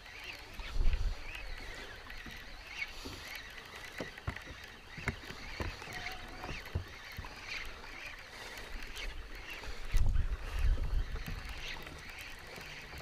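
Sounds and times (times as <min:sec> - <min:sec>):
waves slapping boat hull: 0:00.2 - 0:13.0.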